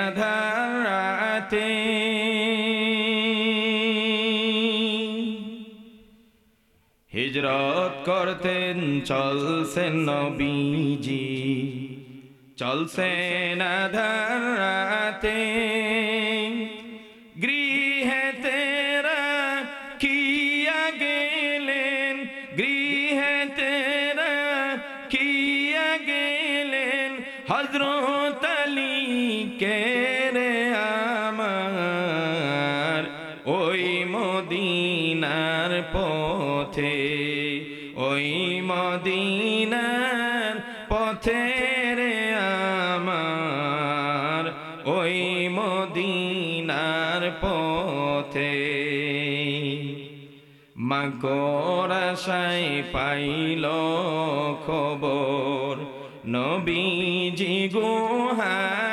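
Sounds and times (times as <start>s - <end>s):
man singing devotional song: 0.0s - 58.9s.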